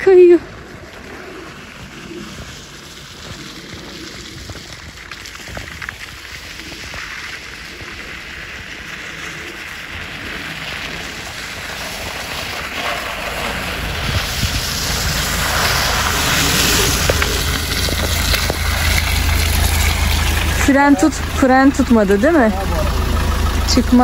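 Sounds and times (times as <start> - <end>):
car engine hum: 0.0 - 24.0
tyres crunching on ice: 0.0 - 24.0.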